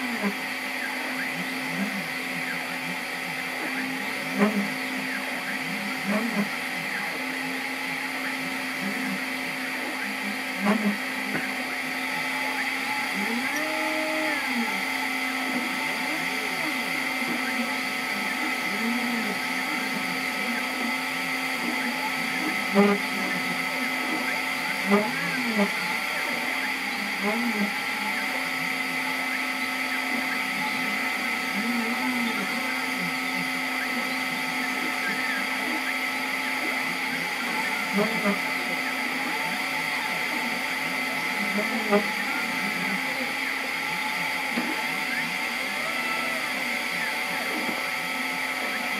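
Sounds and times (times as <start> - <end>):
steady hum: 0.0 - 48.9
stepper motors whirring: 0.0 - 48.9.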